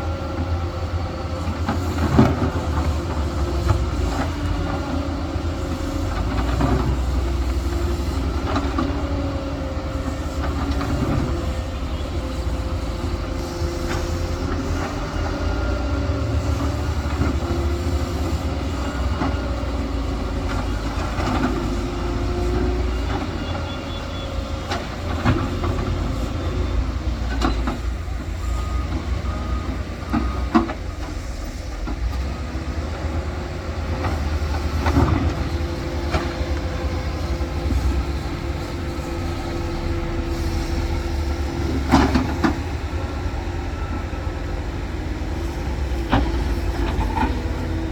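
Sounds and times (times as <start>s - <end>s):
diesel machinery rumbling: 0.0s - 47.9s.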